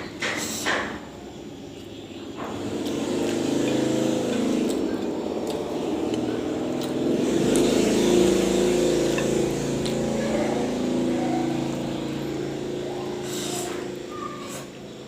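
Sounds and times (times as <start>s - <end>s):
vehicle engine running: 1.7s - 15.0s.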